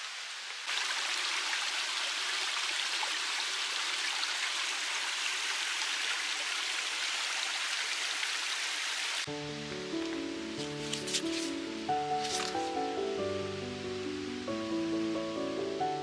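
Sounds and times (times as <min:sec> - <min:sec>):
stream running over rocks: 0:00.0 - 0:14.5.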